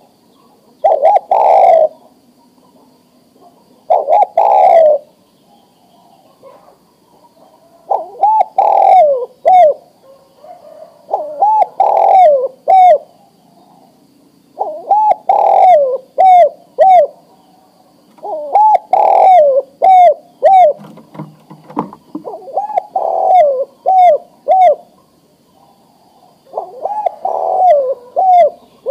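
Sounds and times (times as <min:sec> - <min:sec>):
dove cooing: 0:00.0 - 0:28.9.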